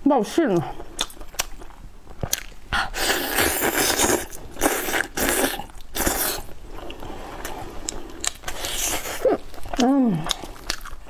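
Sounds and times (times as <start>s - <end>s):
person biting and chewing: 1.0s - 11.0s.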